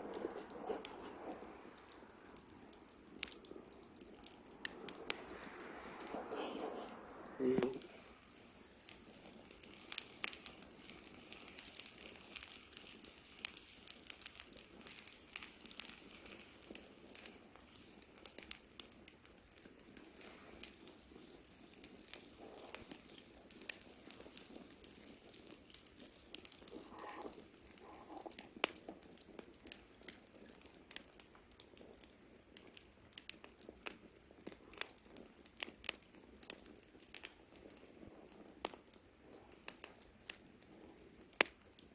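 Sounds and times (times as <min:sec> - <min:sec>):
campfire crackling and popping: 0:00.0 - 0:41.9
soft fire hiss: 0:00.0 - 0:41.9.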